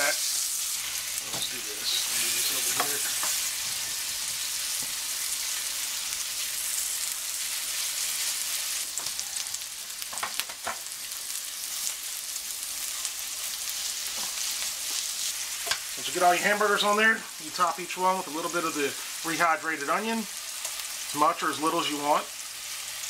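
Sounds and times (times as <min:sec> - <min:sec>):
patties sizzling in skillet: 0:00.0 - 0:23.0.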